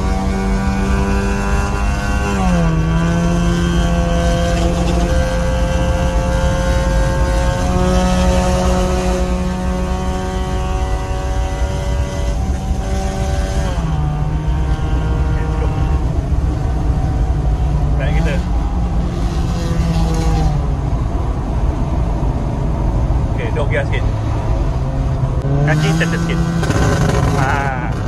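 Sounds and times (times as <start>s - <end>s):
car engine droning from inside cabin: 0.0s - 28.0s.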